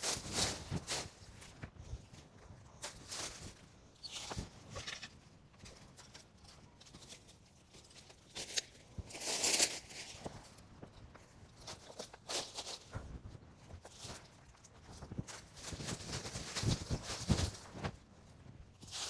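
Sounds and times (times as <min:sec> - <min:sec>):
branches and dry leaves crackling: 0:00.0 - 0:19.0.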